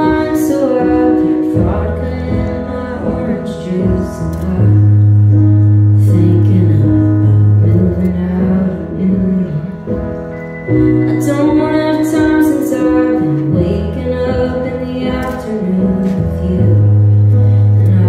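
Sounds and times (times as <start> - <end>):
keyboard: 0.0 - 18.0.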